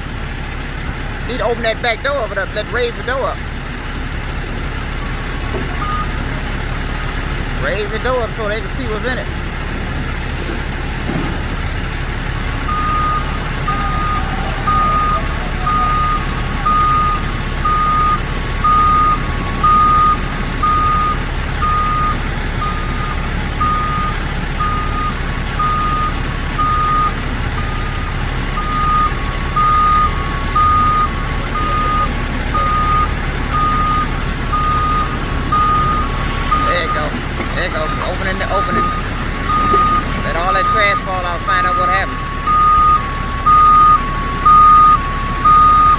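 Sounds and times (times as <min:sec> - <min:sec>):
diesel engine rumble: 0:00.0 - 0:45.9
truck reversing alarm beeping: 0:00.0 - 0:45.9.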